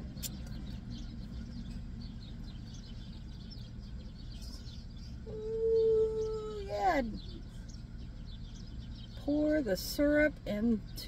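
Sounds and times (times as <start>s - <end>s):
low background hum: 0.0s - 11.0s
small birds chirping: 0.0s - 11.0s.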